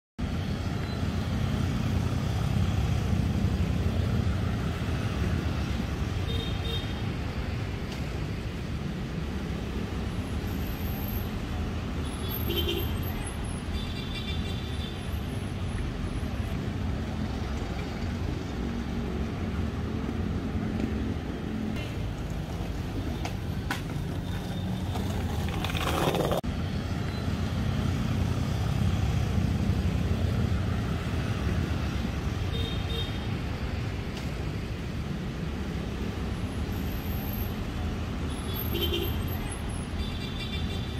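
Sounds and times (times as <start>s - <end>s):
motorcycles and cars passing: 0.2s - 36.8s.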